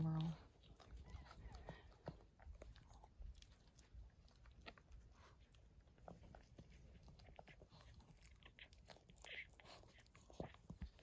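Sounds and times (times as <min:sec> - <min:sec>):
dog licking puppies: 0:00.0 - 0:11.0.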